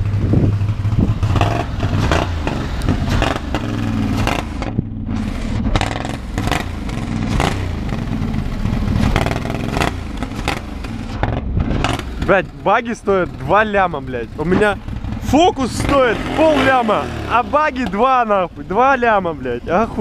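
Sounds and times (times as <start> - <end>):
buggy engine revving: 0.0 - 20.0
exhaust cracks: 0.0 - 20.0.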